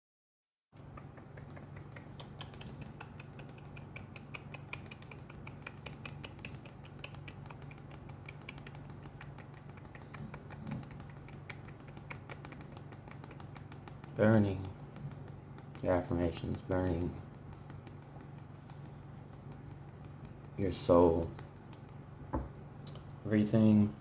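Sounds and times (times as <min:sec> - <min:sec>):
rapid sharp clicking: 0:00.8 - 0:22.2
steady low hum: 0:00.8 - 0:24.0.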